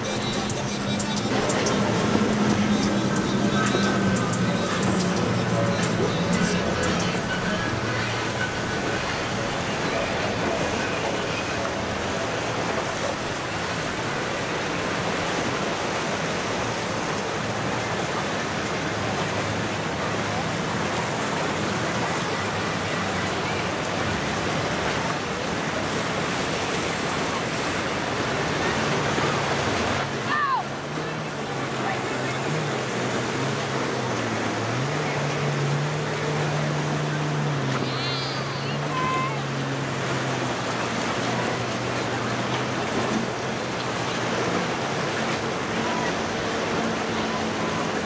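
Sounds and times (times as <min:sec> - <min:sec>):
waves and churning water: 0:00.0 - 0:48.0.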